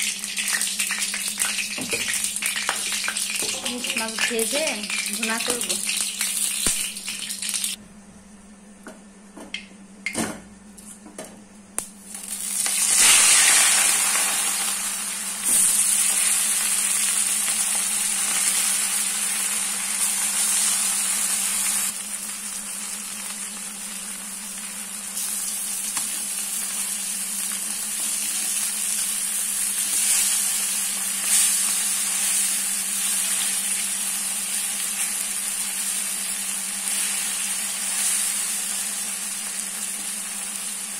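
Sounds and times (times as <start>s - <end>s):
fish sizzling in hot oil: 0.0s - 7.8s, 12.1s - 40.9s.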